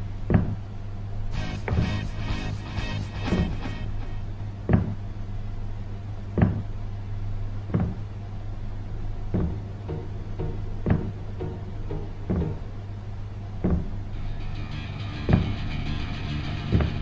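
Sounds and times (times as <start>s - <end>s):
faint ticking rhythm: 0.0s - 17.0s
low electric hum: 0.0s - 17.0s
deep thuds: 0.2s - 0.7s, 1.3s - 5.6s, 6.2s - 14.6s, 15.2s - 15.8s, 16.6s - 17.0s.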